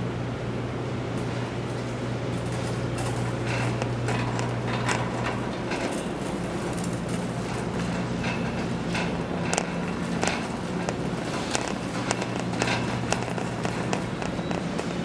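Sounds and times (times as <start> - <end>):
steady low hum: 0.0 - 15.0
clicks and rattles: 2.5 - 15.0.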